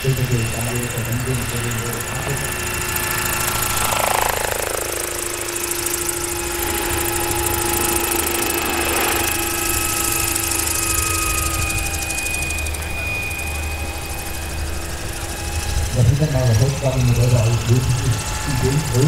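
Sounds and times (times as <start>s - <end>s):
electric drive whine: 0.0s - 19.0s
model helicopter flying past: 0.0s - 19.0s.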